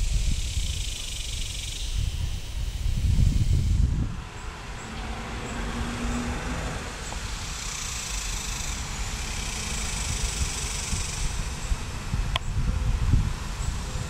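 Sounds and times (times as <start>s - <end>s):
heavy low rumble: 0.0s - 14.0s
jet engines rushing: 0.0s - 14.0s.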